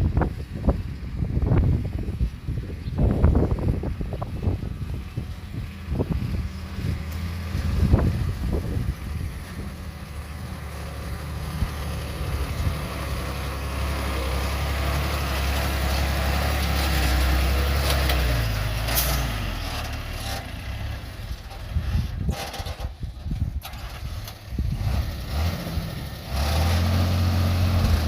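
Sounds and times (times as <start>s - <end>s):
heavy diesel engine working: 0.0s - 28.0s.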